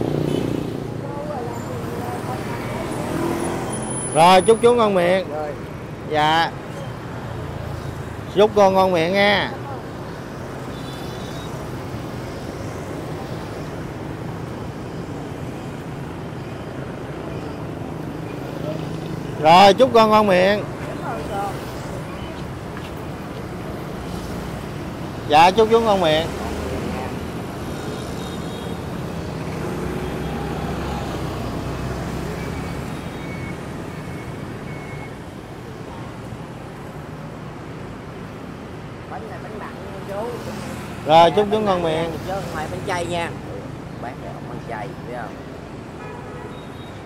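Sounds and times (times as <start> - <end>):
street traffic noise: 0.0 - 47.0.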